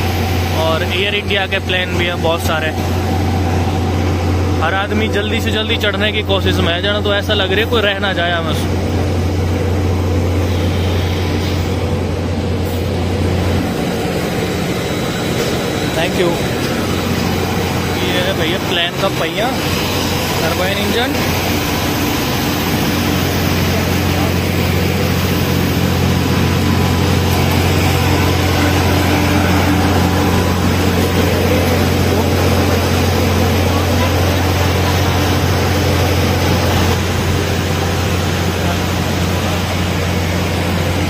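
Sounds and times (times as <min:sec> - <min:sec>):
broad engine rush: 0:00.0 - 0:41.0
deep engine hum: 0:00.0 - 0:41.0.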